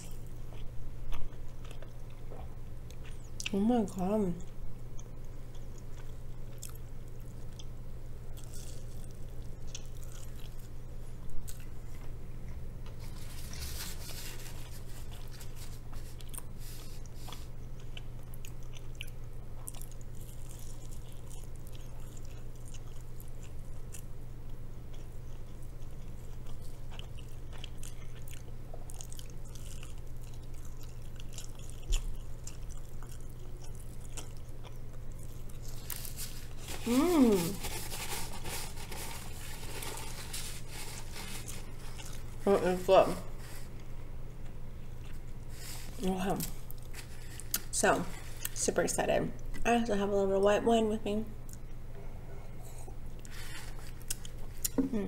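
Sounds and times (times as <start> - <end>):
chewing and crunching food: 0.0 - 49.7, 52.6 - 54.8
steady low hum: 0.0 - 55.0.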